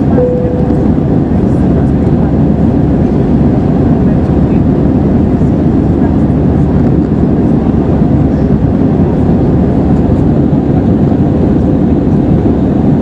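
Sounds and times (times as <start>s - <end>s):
air rushing past cabin: 0.0s - 13.0s
jet engines droning: 0.0s - 13.0s.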